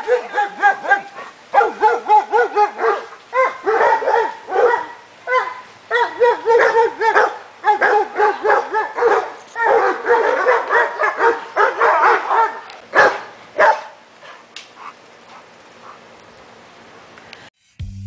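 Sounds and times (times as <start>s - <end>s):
dogs barking excitedly: 0.0s - 16.2s.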